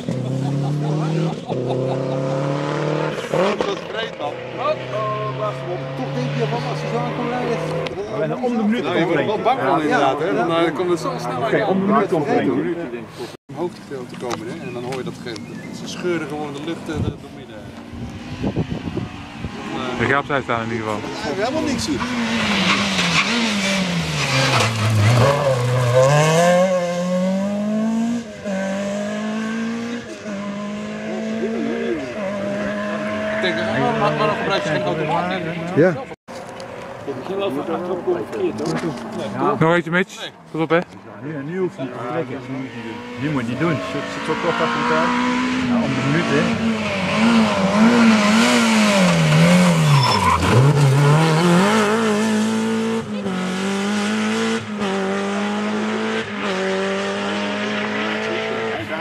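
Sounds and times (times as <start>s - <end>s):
rally car engine accelerating: 0.0s - 12.4s, 18.0s - 36.2s, 41.9s - 59.0s.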